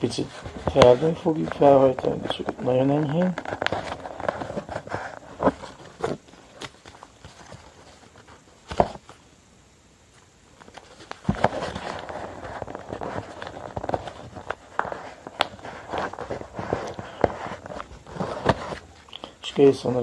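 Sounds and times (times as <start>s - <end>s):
paper rustling and creasing: 0.0s - 9.2s, 10.1s - 20.0s.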